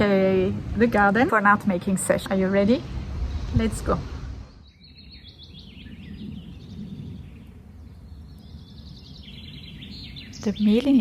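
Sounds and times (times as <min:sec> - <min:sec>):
low outdoor background noise: 0:00.0 - 0:11.0
small birds chirping: 0:00.0 - 0:11.0.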